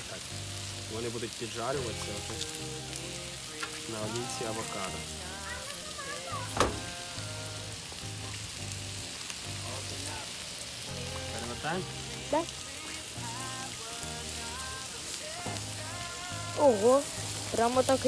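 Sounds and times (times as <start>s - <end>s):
steaks sizzling on a grill: 0.0s - 18.0s.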